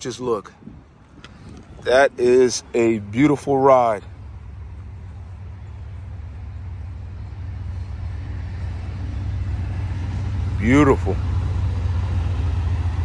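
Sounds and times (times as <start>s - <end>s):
car engine idling: 0.8s - 13.0s.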